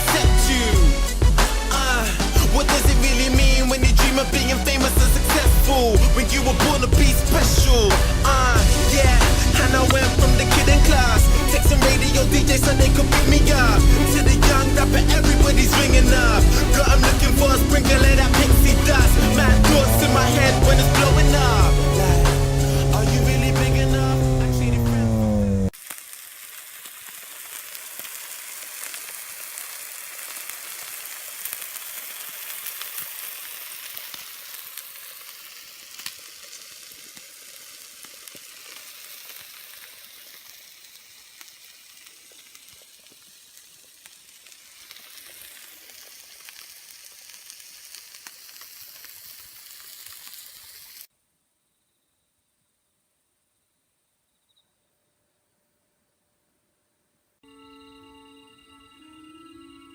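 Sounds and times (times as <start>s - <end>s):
crackling hiss with pops: 0.0s - 25.1s, 25.7s - 51.1s.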